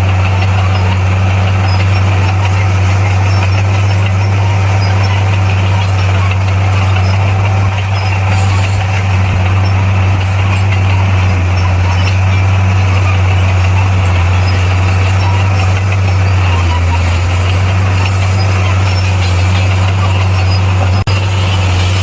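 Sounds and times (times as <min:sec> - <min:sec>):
bulldozer diesel engine droning: 0:00.0 - 0:22.0.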